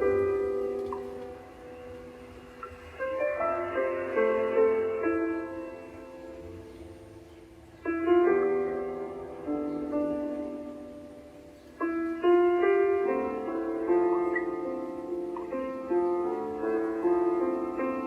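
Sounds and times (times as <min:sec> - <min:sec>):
soft instrumental sleep music: 0:00.0 - 0:18.0.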